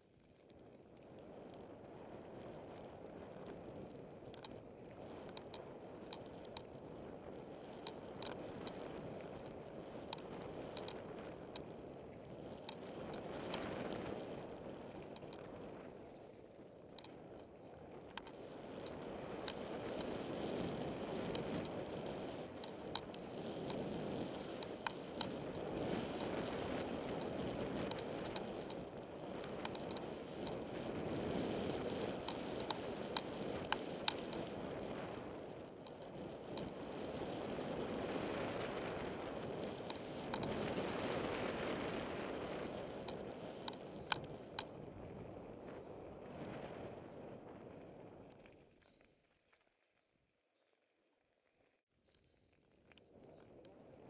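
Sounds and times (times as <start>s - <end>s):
bike tyres rolling on gravel: 0.0s - 49.8s
wind on microphone: 1.1s - 49.0s.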